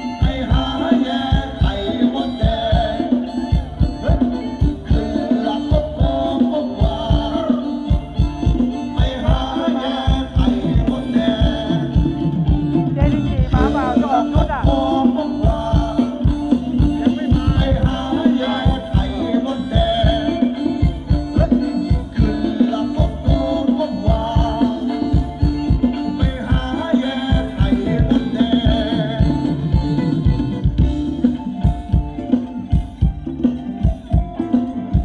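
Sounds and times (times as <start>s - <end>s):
live band playing dance music: 0.0s - 35.0s
steady drum beat: 0.0s - 35.0s.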